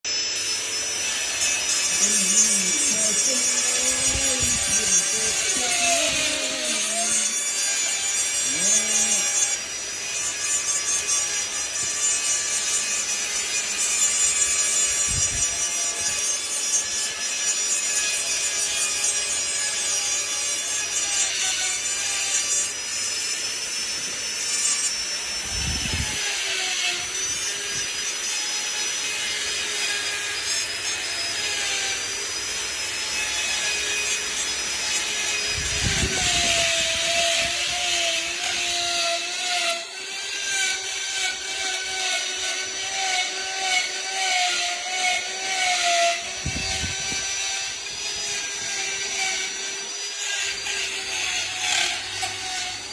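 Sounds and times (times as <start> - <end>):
power carving tool grinding wood: 0.0 - 52.9.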